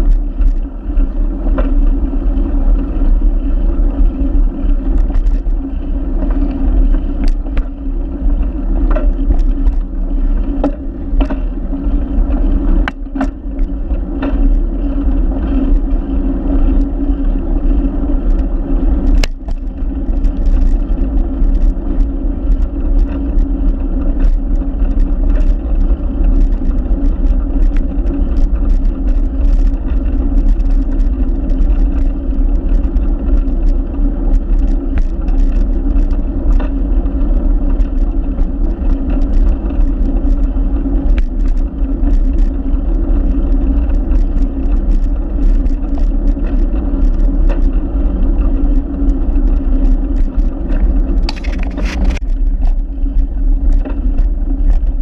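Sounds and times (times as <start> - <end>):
road noise rumble: 0.0 - 55.0
small clicks and rattles: 0.0 - 55.0.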